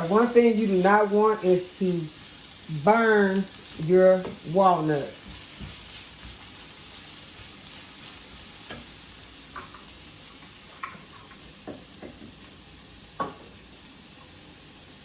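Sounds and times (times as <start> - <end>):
nuts sizzling in a pan: 0.0 - 15.0.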